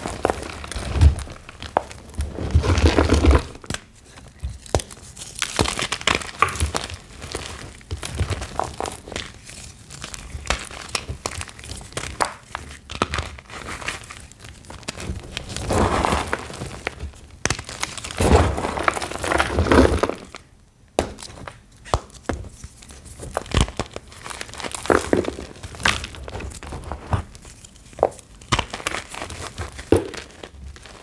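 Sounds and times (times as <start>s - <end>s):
chalk blocks crunching by hand: 0.0s - 20.4s, 21.0s - 31.0s.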